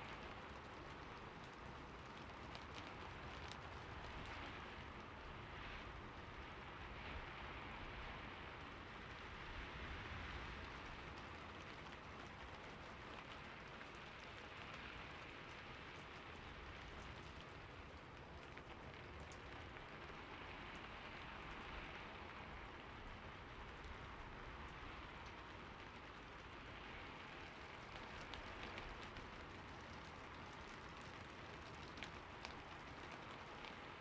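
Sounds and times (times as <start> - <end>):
rain falling on a roof: 0.0 - 34.0.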